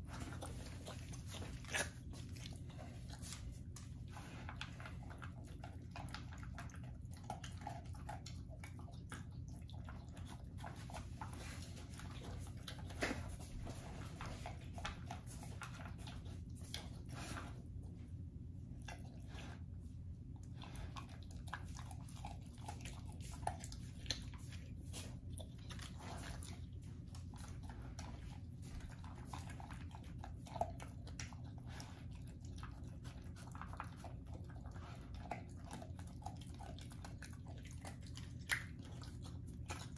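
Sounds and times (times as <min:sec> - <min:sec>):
dog crunching dry kibble: 0:00.0 - 0:17.7, 0:20.3 - 0:39.9
low steady hum: 0:00.0 - 0:39.9.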